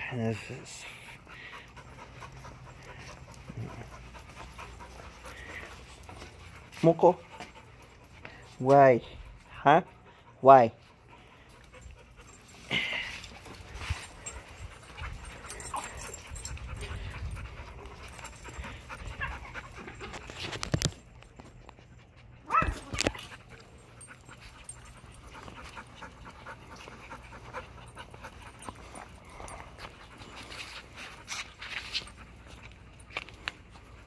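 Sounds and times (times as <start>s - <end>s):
dogs panting: 0.0s - 34.0s
rustle of movement: 0.0s - 34.0s.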